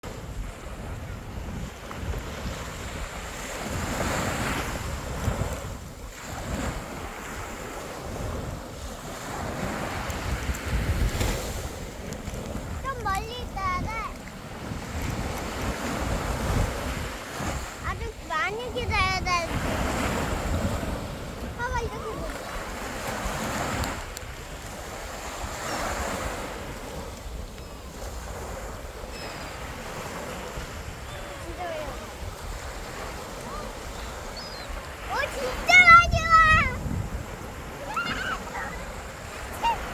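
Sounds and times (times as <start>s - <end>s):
sea waves washing ashore: 0.0s - 39.9s
wind buffeting the microphone: 0.0s - 39.9s.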